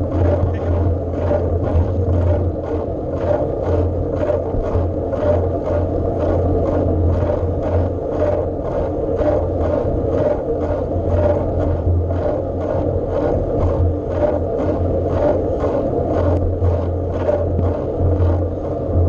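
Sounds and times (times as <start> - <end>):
bike riding rumble: 0.0 - 19.0
rhythmic scrape: 0.0 - 19.0.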